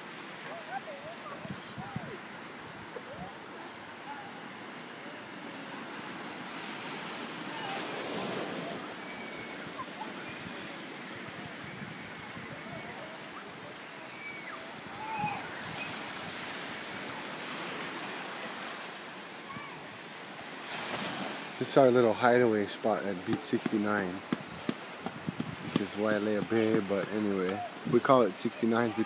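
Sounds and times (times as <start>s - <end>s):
ocean surf washing onto beach: 0.0s - 29.0s.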